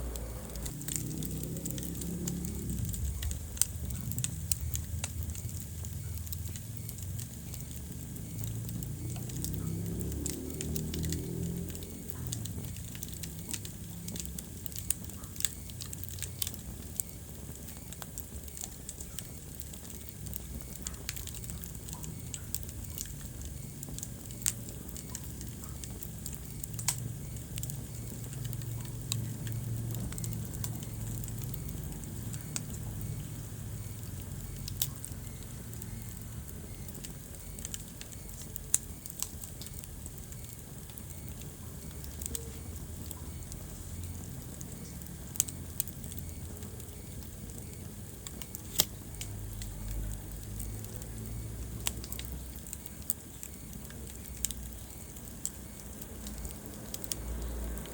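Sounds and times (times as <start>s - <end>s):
low rumble of flames: 0.0s - 57.9s
wood fire crackling: 0.0s - 57.9s.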